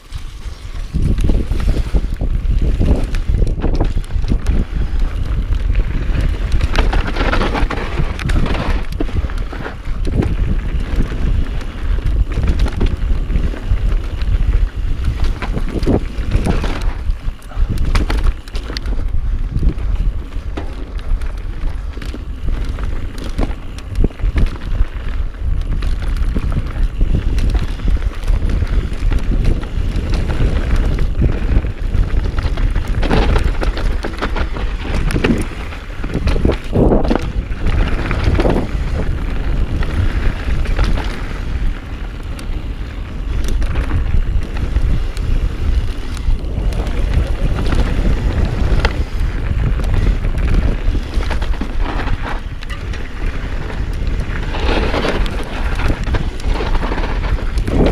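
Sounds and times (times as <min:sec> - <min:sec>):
bike knocking and rattling: 0:00.0 - 0:57.9
tyres rolling and skidding on dirt: 0:00.0 - 0:57.9
wind on microphone: 0:00.0 - 0:57.9.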